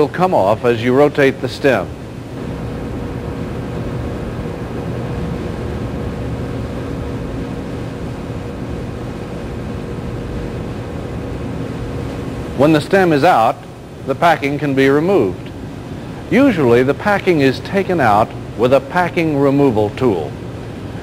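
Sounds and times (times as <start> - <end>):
steady droning hum: 0.0 - 21.0.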